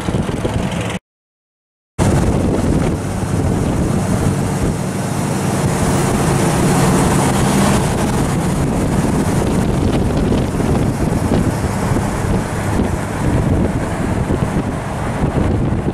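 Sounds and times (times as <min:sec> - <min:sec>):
wind noise on microphone: 0:00.0 - 0:01.0, 0:02.0 - 0:15.9
car engine driving past: 0:02.0 - 0:15.9.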